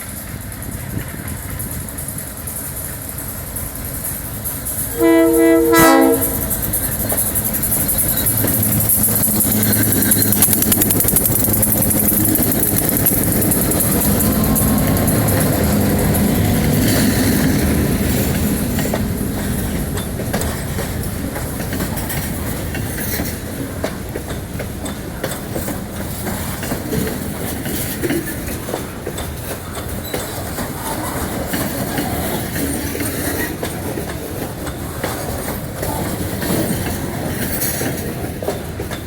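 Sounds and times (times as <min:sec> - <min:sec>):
low train rumble: 0:00.0 - 0:39.0
train wheels clicking over rail joints: 0:00.0 - 0:39.0.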